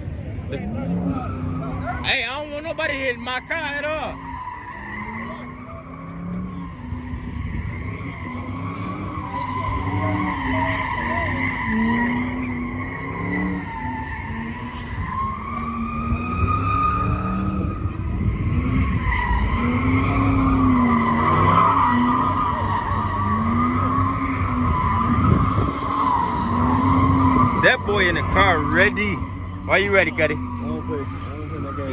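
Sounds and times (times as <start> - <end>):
car engine revving: 0.0 - 31.9
car tires squealing: 0.6 - 31.9.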